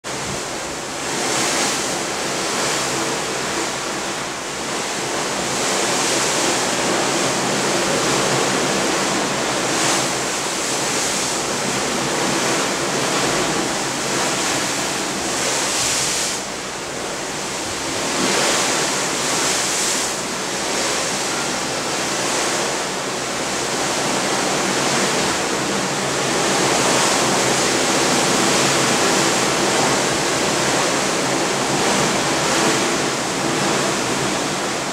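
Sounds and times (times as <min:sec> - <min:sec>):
waves rushing off ship bow: 0:00.0 - 0:34.9.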